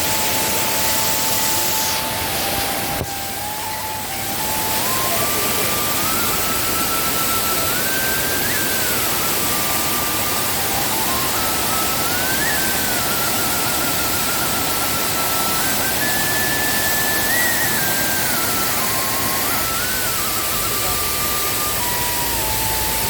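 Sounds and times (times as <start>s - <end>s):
thin high melody: 0.0s - 23.0s
waterfall rushing: 0.0s - 23.0s.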